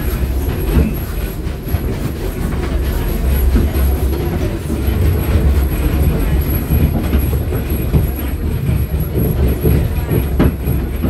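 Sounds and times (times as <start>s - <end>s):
train car low rumble: 0.0s - 11.0s.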